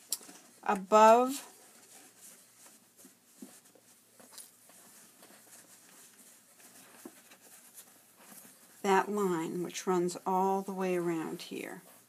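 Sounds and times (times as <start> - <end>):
fabric rustling: 0.0 - 12.0.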